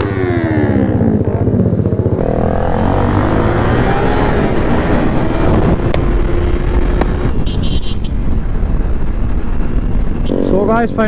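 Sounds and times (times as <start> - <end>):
motorcycle engine accelerating: 0.0 - 11.0
wind noise: 2.0 - 11.0.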